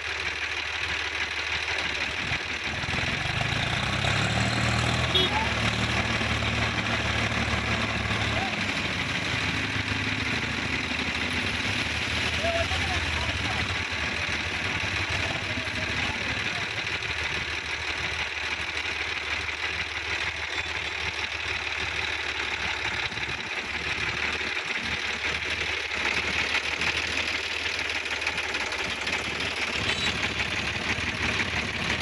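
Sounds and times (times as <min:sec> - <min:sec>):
diesel tractor engines knocking: 0:00.0 - 0:32.0.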